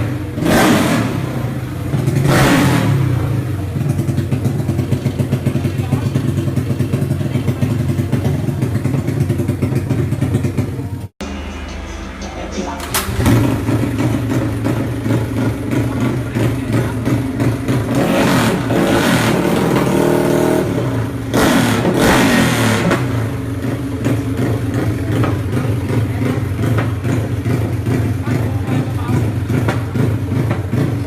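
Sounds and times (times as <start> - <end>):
scooter engine idling and revving: 0.0 - 31.0.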